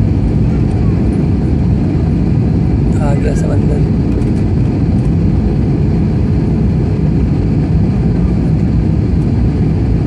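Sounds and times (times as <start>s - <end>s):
airliner engine rumble in cabin: 0.0s - 10.0s.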